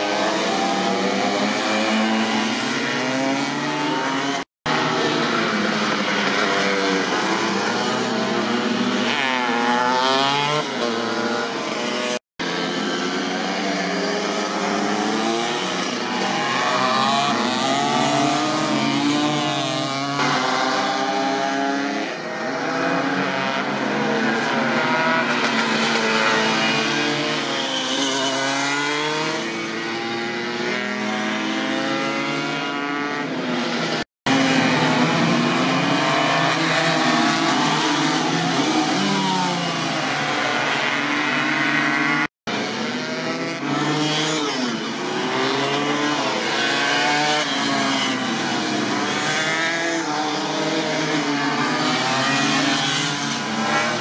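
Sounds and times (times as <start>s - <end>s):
scooter engines revving: 0.0s - 54.0s.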